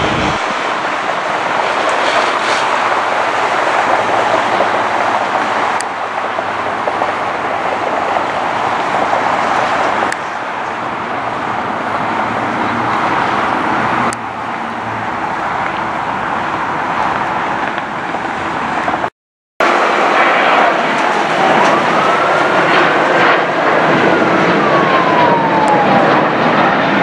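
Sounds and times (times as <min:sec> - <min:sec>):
loud engines roaring: 0:00.0 - 0:27.0.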